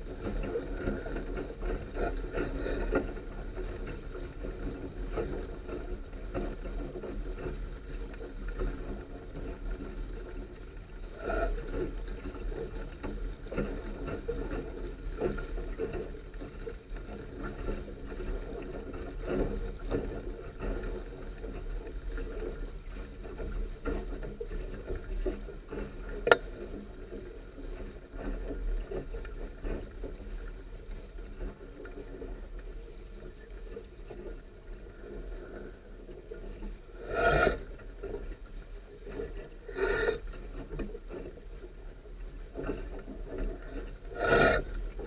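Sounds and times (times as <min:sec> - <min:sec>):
water slapping along boat hull: 0:00.0 - 0:45.0.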